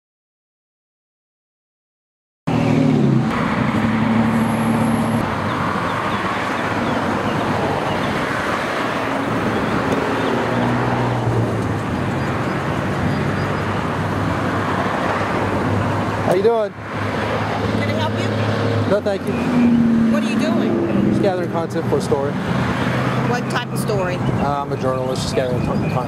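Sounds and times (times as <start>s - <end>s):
car engine running: 2.5s - 24.2s
vehicles passing: 2.5s - 26.0s.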